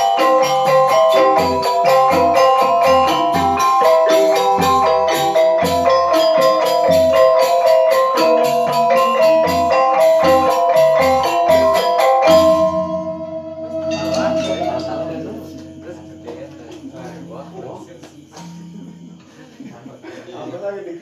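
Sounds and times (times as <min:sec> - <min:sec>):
gamelan playing: 0:00.0 - 0:19.4.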